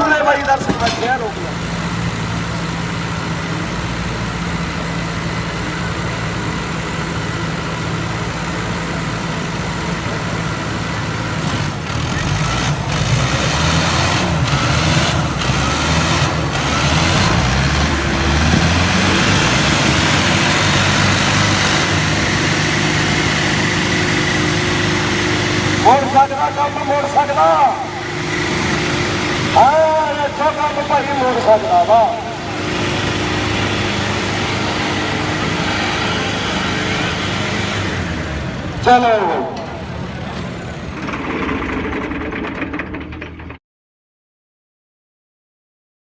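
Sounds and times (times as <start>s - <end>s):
tractor engine running: 0.0s - 43.6s.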